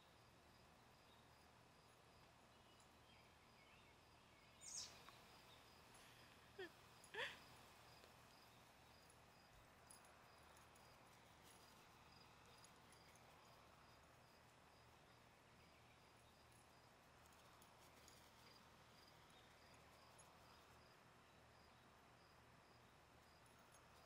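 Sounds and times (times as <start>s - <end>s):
crickets chirping: 0.0s - 24.0s
faint steady hiss: 0.0s - 24.0s.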